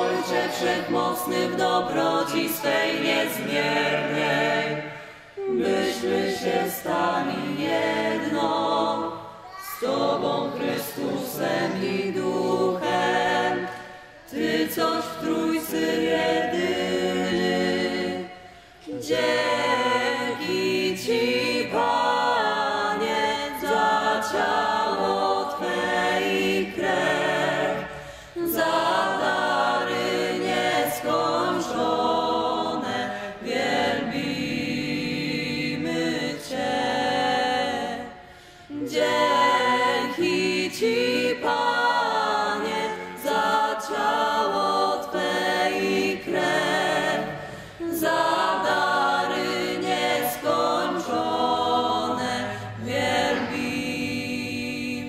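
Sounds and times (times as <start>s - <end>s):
group singing a hymn a cappella: 0.0s - 55.0s.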